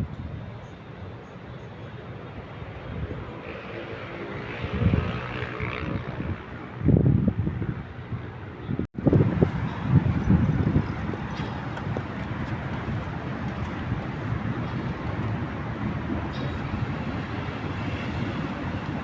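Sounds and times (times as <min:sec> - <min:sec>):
wind on microphone: 0:00.0 - 0:01.2, 0:02.3 - 0:19.0
city traffic rumble: 0:00.0 - 0:19.0.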